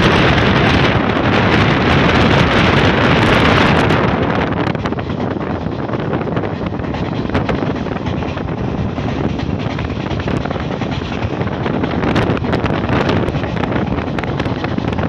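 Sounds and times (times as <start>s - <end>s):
train running on rails: 0.0s - 15.0s
wind rushing over microphone: 0.0s - 15.0s.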